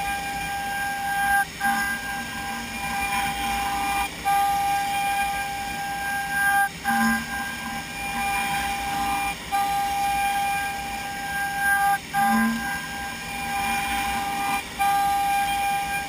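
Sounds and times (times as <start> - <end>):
milling spindle whining: 0.0 - 16.0.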